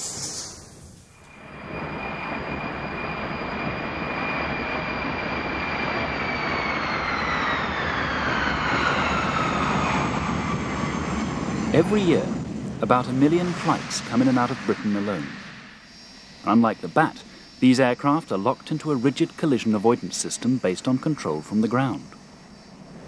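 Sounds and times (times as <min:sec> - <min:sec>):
high engine whine sliding down: 0:00.0 - 0:23.0
jet aircraft passing by: 0:00.0 - 0:23.0.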